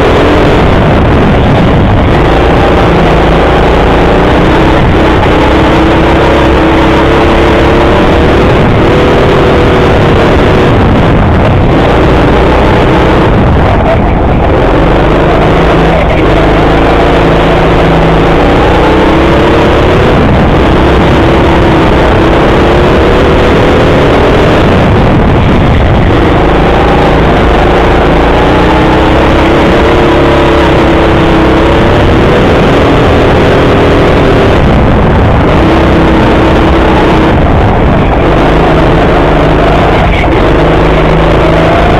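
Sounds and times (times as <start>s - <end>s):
go-kart engine running hard: 0.0s - 41.9s
loud rushing noise: 0.0s - 41.9s.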